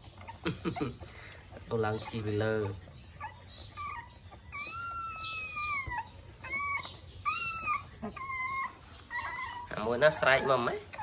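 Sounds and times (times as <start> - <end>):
puppies whining: 0.0 - 11.0.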